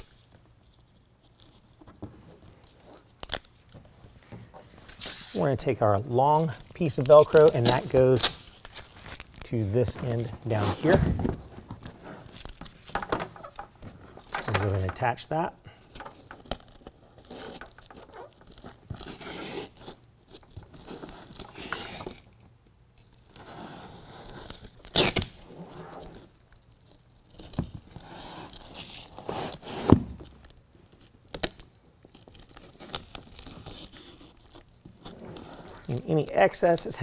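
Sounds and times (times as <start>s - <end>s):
velcro strip tearing and rustling: 2.6s - 3.8s, 4.7s - 5.6s, 6.3s - 14.8s, 15.9s - 36.8s.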